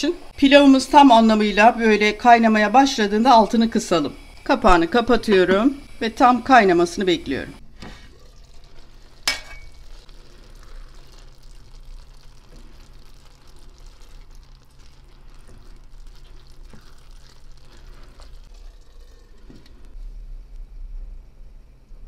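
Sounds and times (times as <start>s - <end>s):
pot of rice bubbling and crackling: 0.0s - 20.0s.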